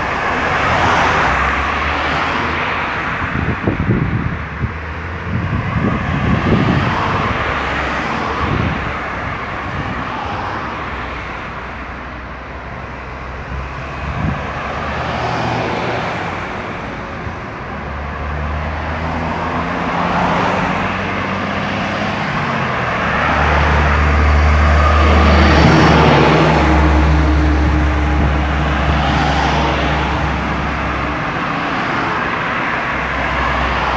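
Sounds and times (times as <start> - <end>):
heavy vehicle engine drone: 0.0 - 33.9
vehicles passing on highway: 0.0 - 33.9.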